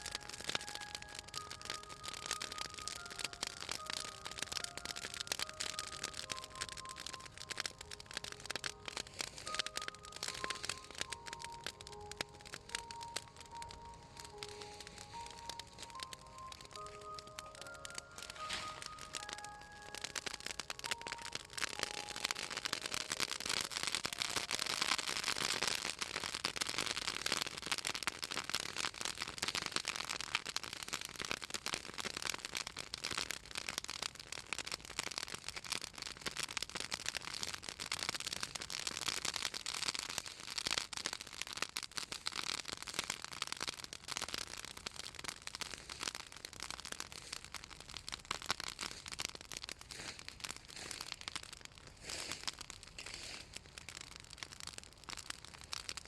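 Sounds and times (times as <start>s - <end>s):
bonfire crackling and popping: 0.0s - 56.0s.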